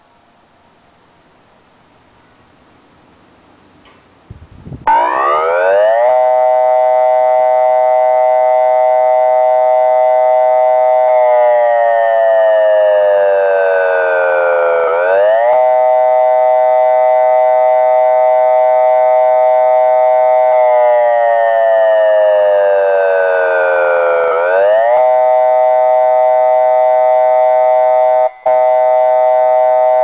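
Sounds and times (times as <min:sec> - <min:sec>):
electronic siren wailing: 0:04.9 - 0:30.0.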